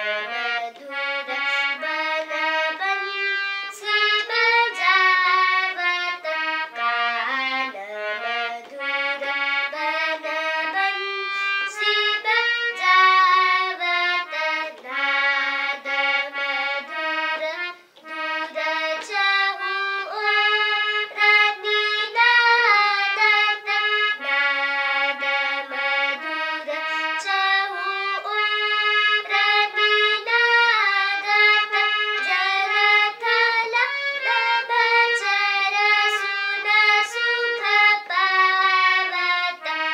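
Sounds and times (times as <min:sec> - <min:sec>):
free-reed instrument melody: 0:00.0 - 0:39.9.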